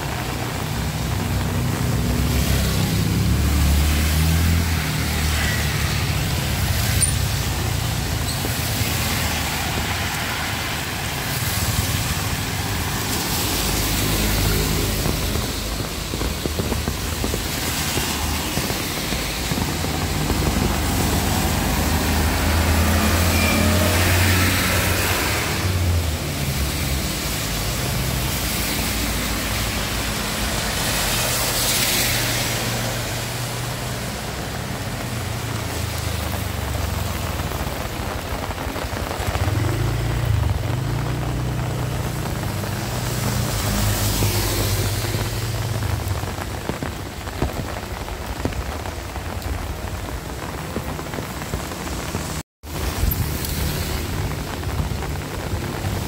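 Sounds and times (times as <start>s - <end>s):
heavy rain: 0.0s - 56.0s
tyres hissing on wet road: 0.0s - 56.0s
vehicles passing: 0.0s - 56.0s.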